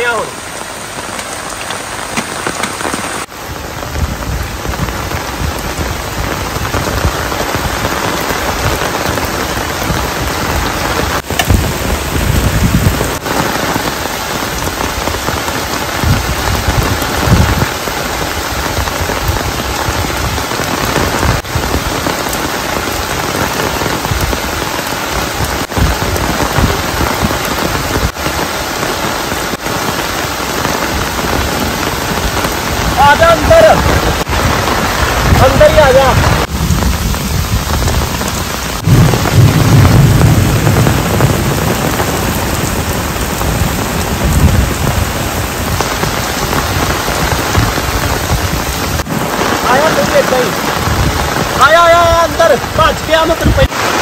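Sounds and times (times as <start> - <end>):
heavy rain on umbrella and tent: 0.0 - 54.0.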